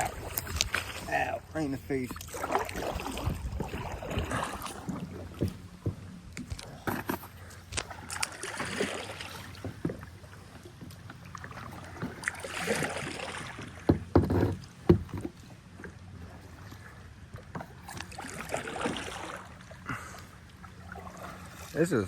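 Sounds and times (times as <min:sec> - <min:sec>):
paddle swishing through water: 0:00.0 - 0:22.0.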